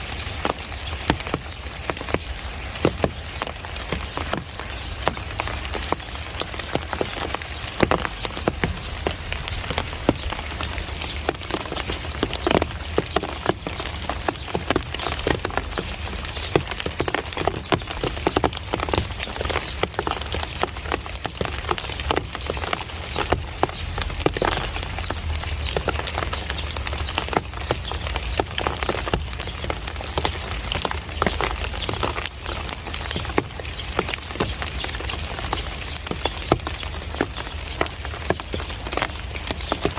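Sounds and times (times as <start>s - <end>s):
heavy rain hissing: 0.0s - 39.9s
raindrops striking hard surfaces: 0.0s - 39.9s.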